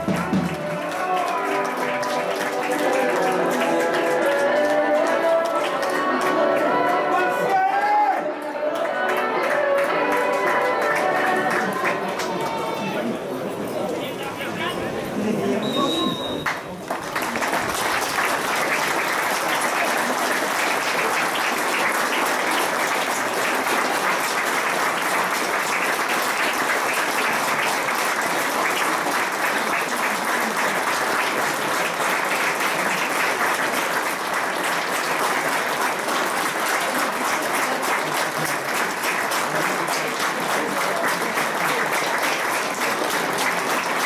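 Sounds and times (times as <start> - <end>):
crowd applause: 0.0 - 44.0.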